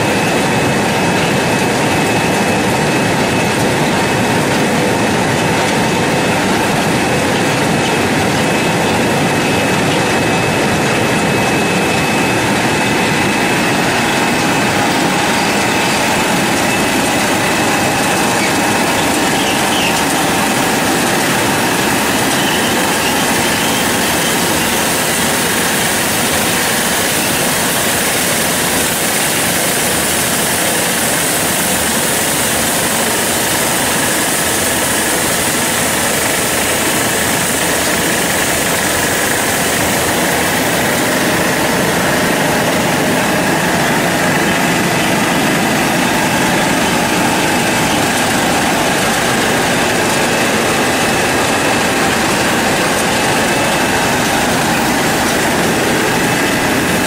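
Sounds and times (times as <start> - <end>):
washing machine motor hum: 0.0 - 57.0
rushing water: 0.2 - 57.0.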